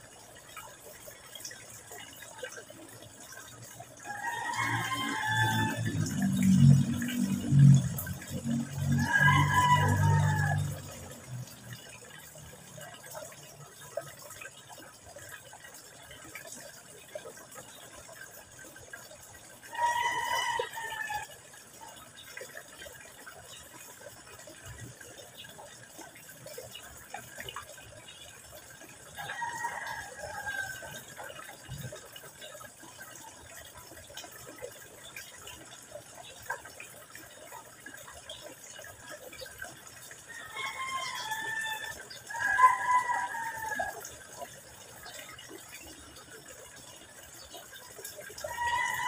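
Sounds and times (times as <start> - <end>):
water trickling into pond: 0.0 - 49.0.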